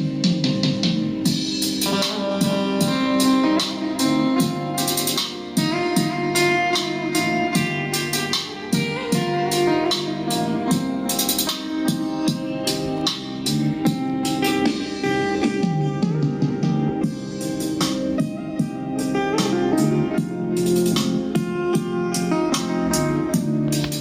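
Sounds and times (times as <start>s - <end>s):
music with guitar and drums: 0.0s - 24.0s.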